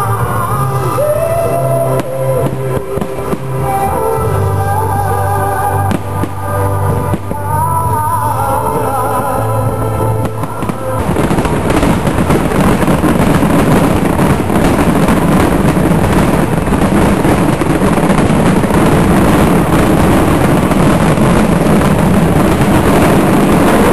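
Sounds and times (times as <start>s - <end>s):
fireworks crackling and banging: 0.0s - 23.9s
rock music: 0.0s - 23.9s.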